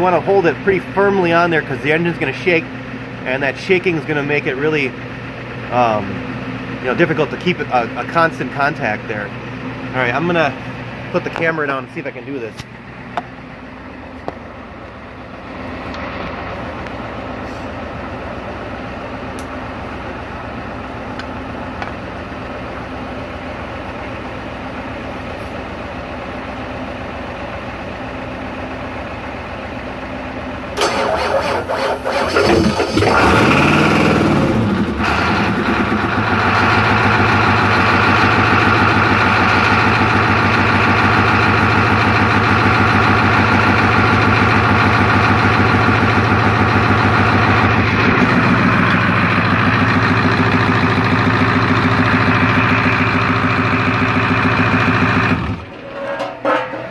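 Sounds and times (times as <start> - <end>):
diesel engine cranking and running: 0.0 - 56.9.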